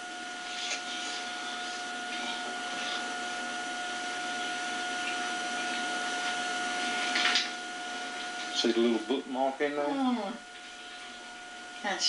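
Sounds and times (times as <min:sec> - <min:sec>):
high whine: 0:00.0 - 0:12.0.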